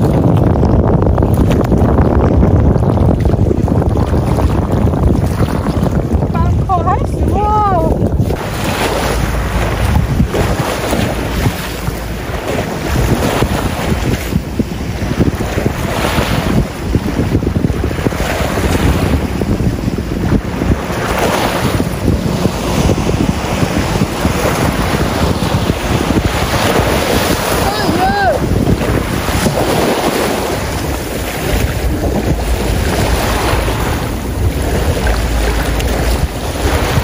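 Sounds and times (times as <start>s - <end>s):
wind buffeting microphone: 0.0s - 37.0s
small waves breaking on shore: 1.3s - 37.0s.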